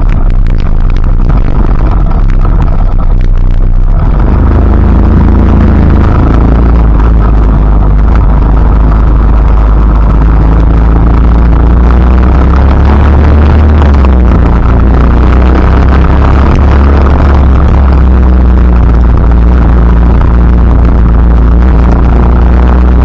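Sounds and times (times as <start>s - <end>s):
deep steady rumble: 0.0s - 23.0s.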